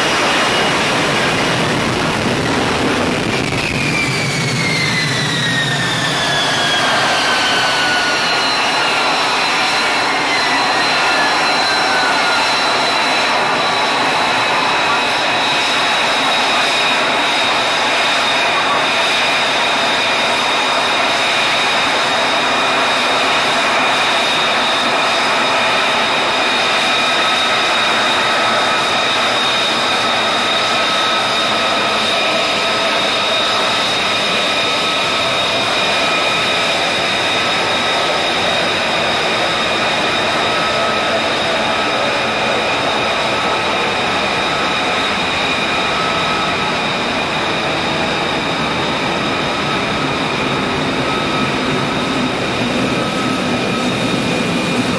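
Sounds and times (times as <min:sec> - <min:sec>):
high-pitched turbine whine: 0:00.0 - 0:54.9
jet engine running: 0:00.0 - 0:54.9.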